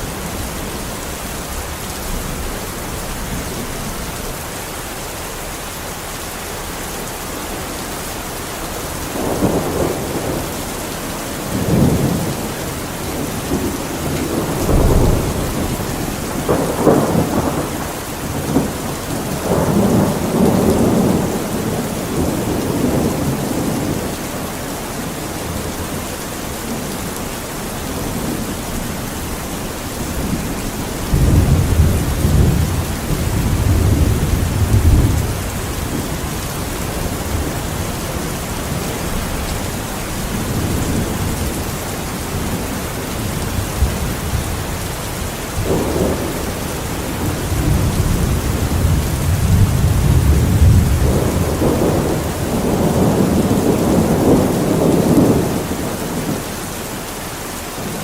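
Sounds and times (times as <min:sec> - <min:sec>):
steady rain: 0:00.0 - 0:58.0
thunder rumbling: 0:07.0 - 0:56.5.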